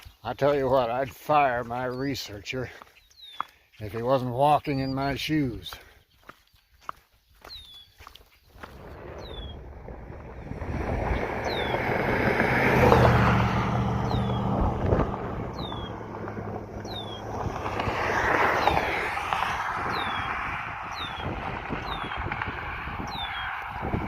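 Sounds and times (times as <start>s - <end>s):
vehicles passing on road: 0.0s - 24.0s.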